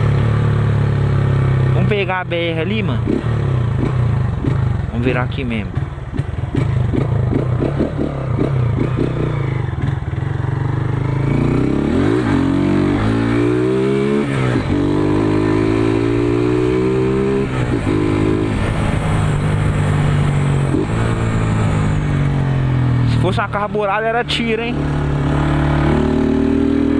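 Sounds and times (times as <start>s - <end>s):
motorcycle accelerating: 0.0s - 26.9s.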